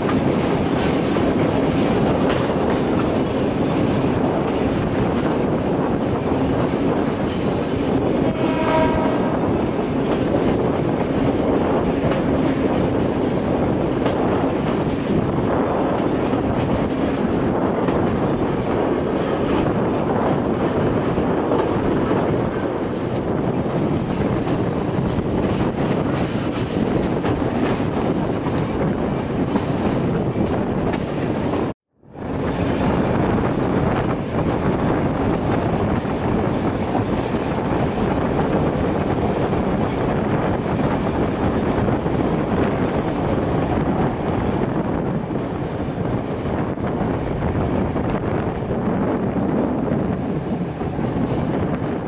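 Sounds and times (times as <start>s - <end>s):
train wheels rolling on rails: 0.0s - 52.0s.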